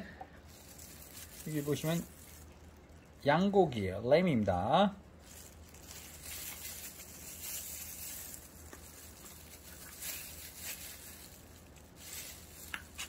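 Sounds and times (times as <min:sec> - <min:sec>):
plastic gloves rustling: 0:00.3 - 0:04.4, 0:05.0 - 0:13.0.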